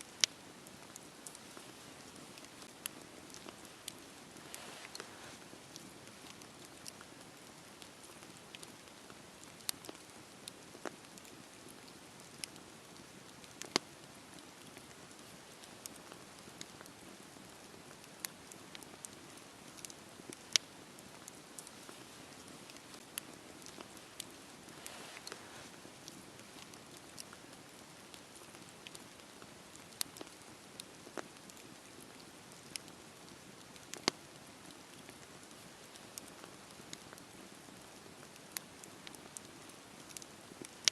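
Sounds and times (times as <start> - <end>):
campfire wood crackling: 0.0 - 40.9
fire popping: 0.0 - 40.9.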